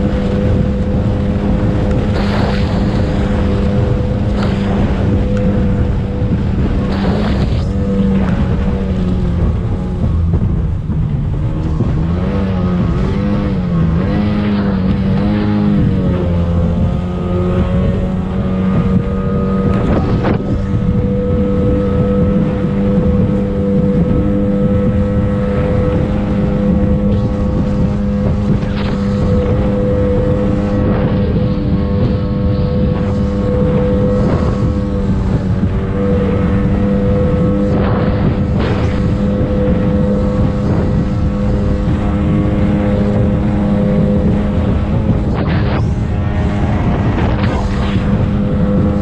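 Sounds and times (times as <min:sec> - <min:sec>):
rush of wind and water: 0:00.0 - 0:49.0
speedboat engine running hard: 0:00.0 - 0:49.0.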